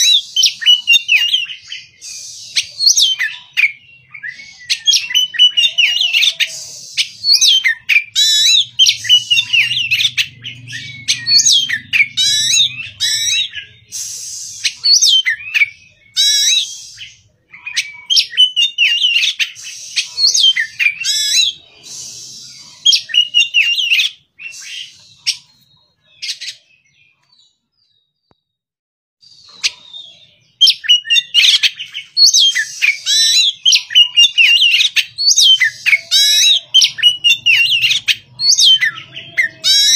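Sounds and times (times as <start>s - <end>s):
bird whistling and warbling: 0.0s - 27.3s, 29.2s - 39.9s.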